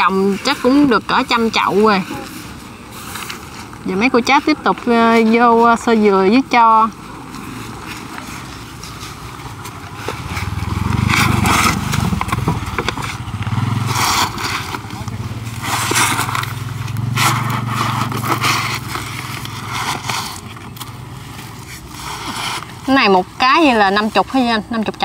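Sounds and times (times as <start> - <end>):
scraping and rustling of coir: 0.0 - 24.8.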